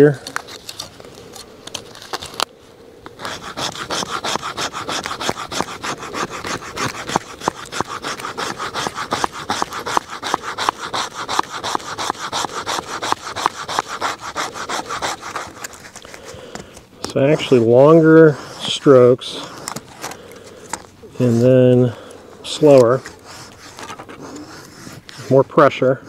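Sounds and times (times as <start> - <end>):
knife scraping wooden stick: 3.1 - 26.0.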